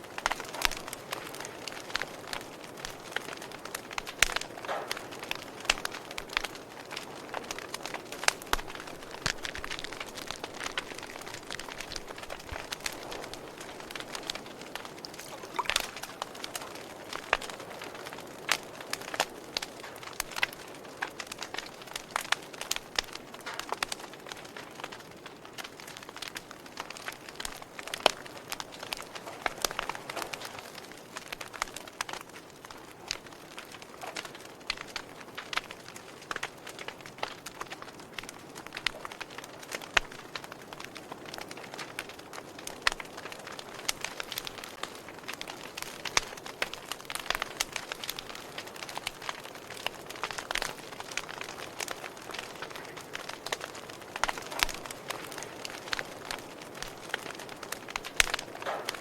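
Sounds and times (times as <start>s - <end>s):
soft steady hiss: 0.0s - 49.3s
wood fire crackling: 0.0s - 59.0s.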